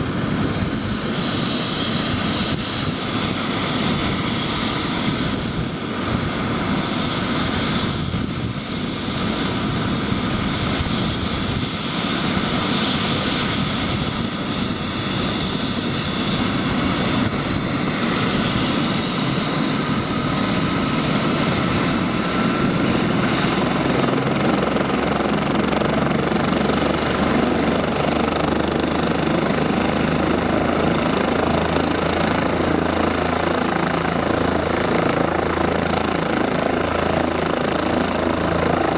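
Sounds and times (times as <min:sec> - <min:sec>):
helicopter rotor drone: 0:00.0 - 0:38.9
helicopter turbine engine whine: 0:00.0 - 0:38.9.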